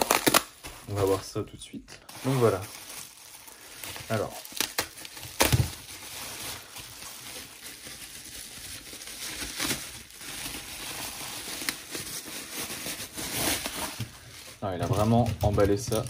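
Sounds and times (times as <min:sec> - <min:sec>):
wrapping paper crinkling: 0:00.0 - 0:01.4, 0:02.0 - 0:16.0.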